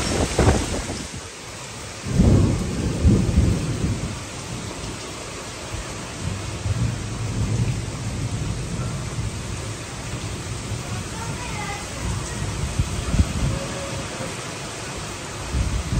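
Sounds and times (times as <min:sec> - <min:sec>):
heavy rain: 0:00.0 - 0:15.9
strong wind: 0:00.0 - 0:15.9
thunder rumbling: 0:00.0 - 0:15.9.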